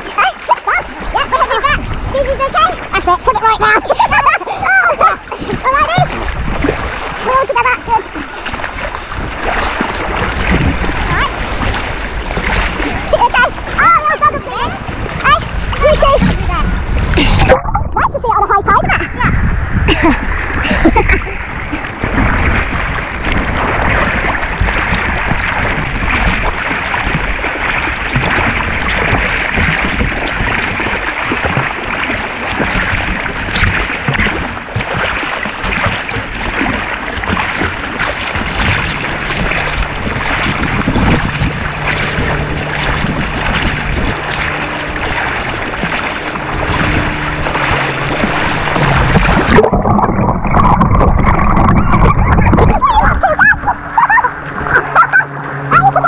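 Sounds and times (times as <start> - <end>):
swimming stroke splashes: 0.0 - 17.8, 19.9 - 56.0
muffled underwater sound: 0.0 - 56.0
water splashing and sloshing: 0.0 - 56.0.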